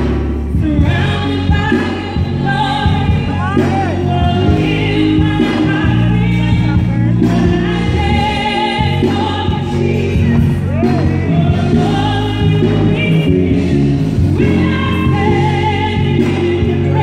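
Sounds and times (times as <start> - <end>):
instrumental accompaniment: 0.0 - 17.0
woman singing gospel ballad: 0.0 - 17.0.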